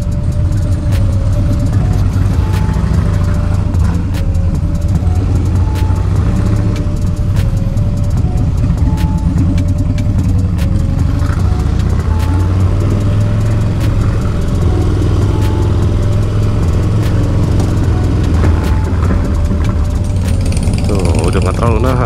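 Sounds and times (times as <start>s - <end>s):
background music: 0.0s - 22.0s
motorcycle engine running: 0.0s - 22.0s.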